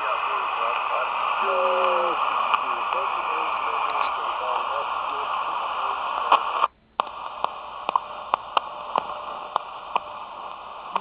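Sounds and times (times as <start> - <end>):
radio static hiss: 0.0 - 11.0
static crackles: 0.0 - 11.0.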